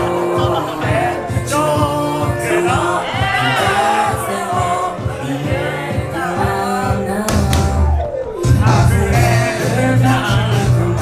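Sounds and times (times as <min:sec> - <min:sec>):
pop song over sound system: 0:00.0 - 0:11.0.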